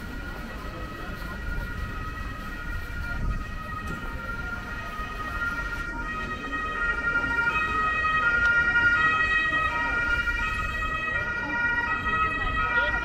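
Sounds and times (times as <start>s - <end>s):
street noise: 0.0s - 13.0s
two-tone emergency siren: 0.0s - 13.0s.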